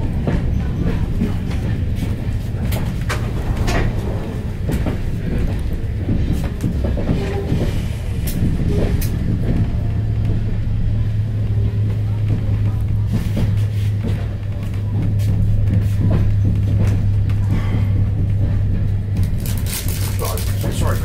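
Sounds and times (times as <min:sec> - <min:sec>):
steady low hum: 0:00.0 - 0:21.0
train carriage rumbling: 0:00.0 - 0:21.0
wheels clicking over rail joints: 0:00.0 - 0:21.0.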